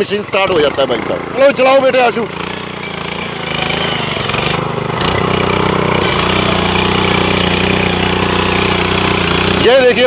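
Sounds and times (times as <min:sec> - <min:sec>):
power tiller engine running: 0:00.0 - 0:10.0.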